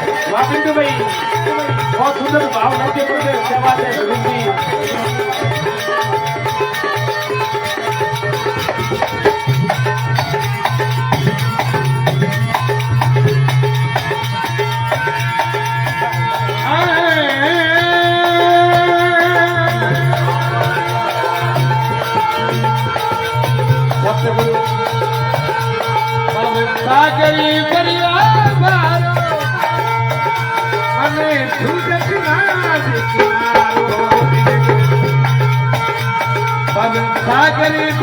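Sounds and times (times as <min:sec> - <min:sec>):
hand drum rhythm: 0:00.0 - 0:38.0
wavering melodic phrase: 0:00.0 - 0:38.0.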